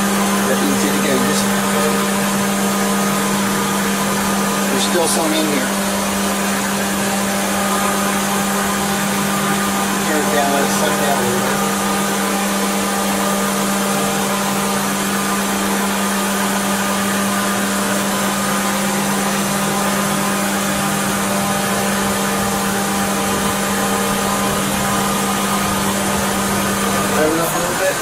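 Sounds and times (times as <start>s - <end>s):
car engine idling: 0.0s - 16.5s, 17.5s - 28.0s.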